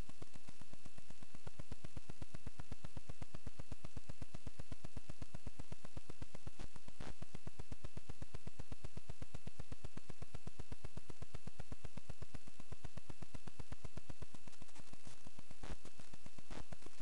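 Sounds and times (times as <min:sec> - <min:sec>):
pulsing electrical buzz: 0:00.0 - 0:17.0.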